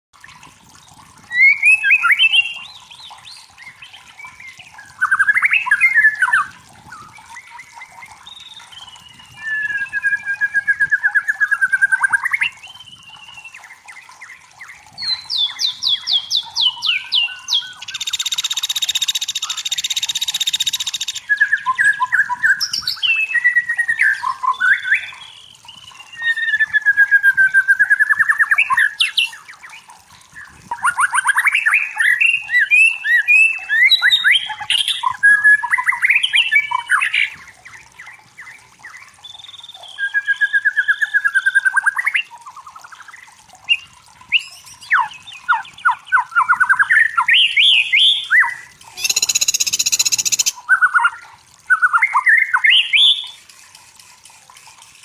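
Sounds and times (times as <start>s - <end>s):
bird singing trills and whistles: 1.2s - 53.4s.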